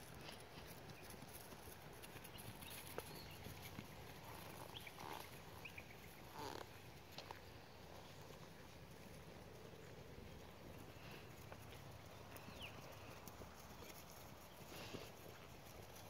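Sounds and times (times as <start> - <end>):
distant horse hooves on sand: 0.0 - 16.0.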